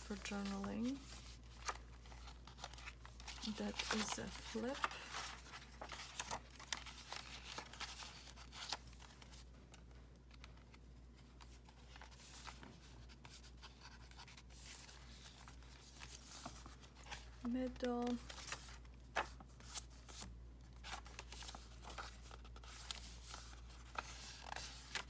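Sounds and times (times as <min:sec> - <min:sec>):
paper pages rustling: 0:00.0 - 0:25.0.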